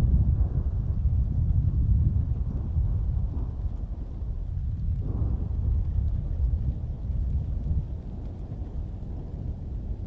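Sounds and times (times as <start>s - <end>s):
faint rain: 0.0s - 10.0s
rumble of thunder: 0.0s - 10.0s
wind: 0.0s - 10.0s.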